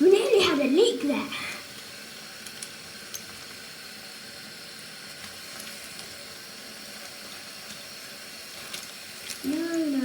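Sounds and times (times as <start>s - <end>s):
running water hiss: 0.0s - 10.0s.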